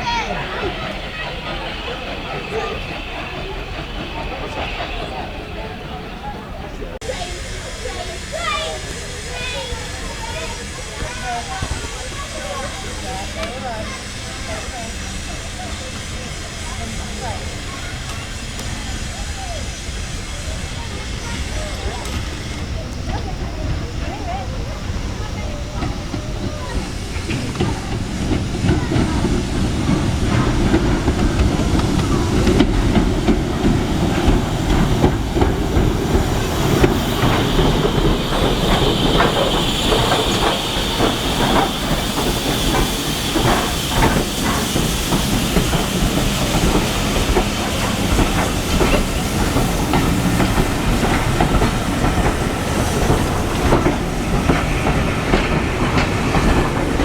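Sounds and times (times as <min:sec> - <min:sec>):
high hiss: 0:00.0 - 0:57.0
train rumbling on rails: 0:00.0 - 0:57.0
wheels clicking over rail joints: 0:00.0 - 0:57.0.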